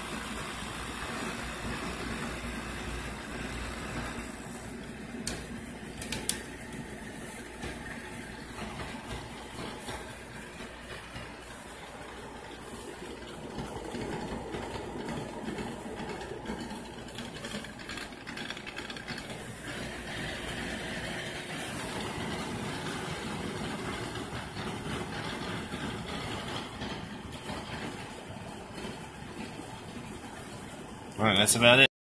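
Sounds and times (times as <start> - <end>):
model train motor humming: 0.0 - 31.8
wheels rolling over rails: 0.0 - 31.9.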